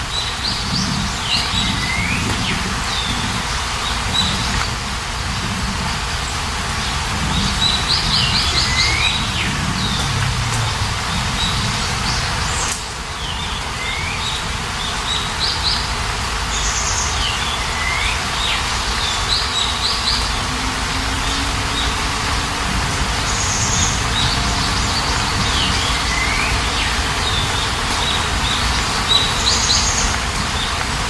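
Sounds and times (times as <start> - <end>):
songbirds chirping: 0.0 - 31.0
steady rain: 0.0 - 31.0.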